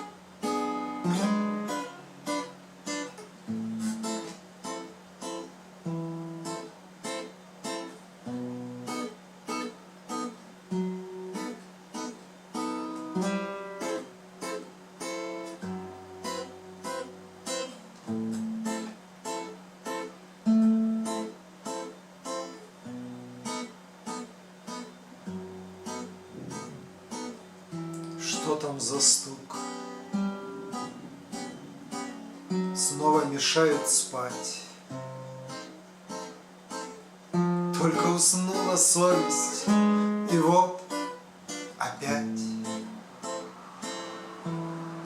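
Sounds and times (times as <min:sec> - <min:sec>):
acoustic guitar playing: 0:00.0 - 0:45.0.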